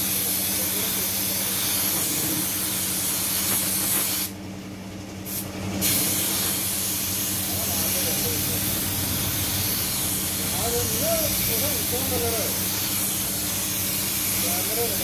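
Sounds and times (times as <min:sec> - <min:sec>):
paint spray gun hissing: 0:00.0 - 0:04.4, 0:05.3 - 0:15.0.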